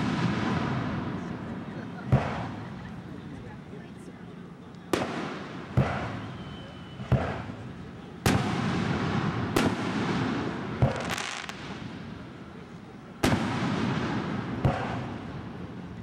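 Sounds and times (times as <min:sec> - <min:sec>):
fireworks bangs with rumble: 0:00.0 - 0:03.1, 0:04.9 - 0:12.4, 0:13.1 - 0:16.0
fireworks crackle: 0:00.0 - 0:03.1, 0:04.9 - 0:16.0.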